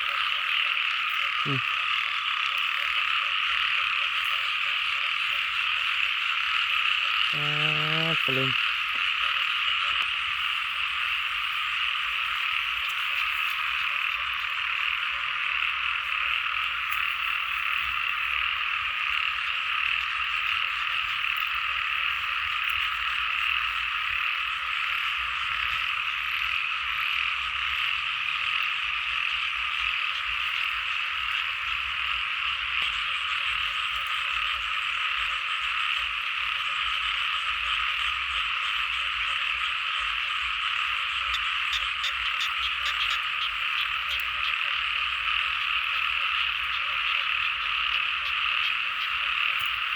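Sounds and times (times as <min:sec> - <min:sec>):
chorus of frogs calling: 0:00.0 - 0:49.9.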